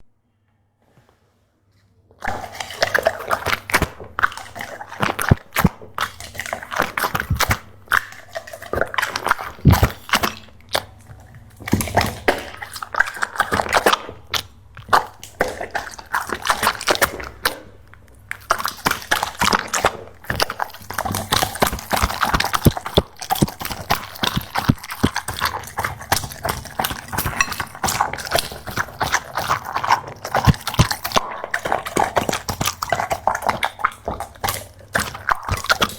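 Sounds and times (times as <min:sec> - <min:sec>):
dog wet mouth sounds: 0:02.2 - 0:35.9.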